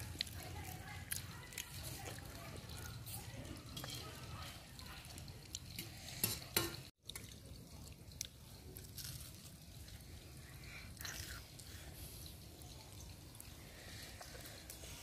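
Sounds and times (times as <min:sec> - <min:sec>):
chewing crisp fried food: 0:00.0 - 0:06.0, 0:06.9 - 0:15.0.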